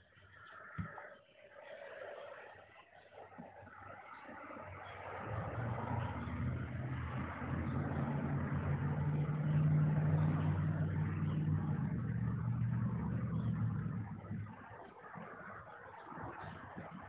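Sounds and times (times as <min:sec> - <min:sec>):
low steady engine hum: 0:03.3 - 0:17.0.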